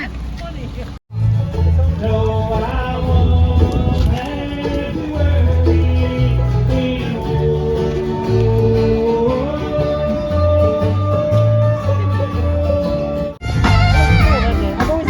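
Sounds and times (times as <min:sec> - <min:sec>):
walking bass line: 0:00.0 - 0:15.0
banjo: 0:01.1 - 0:15.0
guitar: 0:01.1 - 0:15.0.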